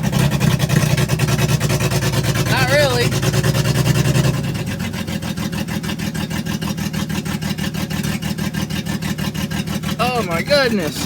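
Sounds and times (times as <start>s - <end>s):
engine running roughly: 0.0s - 11.0s.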